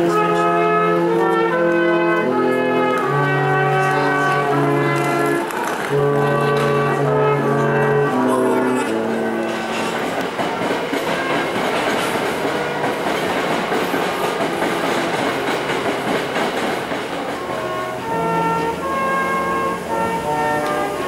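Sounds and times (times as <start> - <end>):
background music: 0.0 - 16.3, 17.4 - 21.0
train rolling on rails: 0.0 - 21.0.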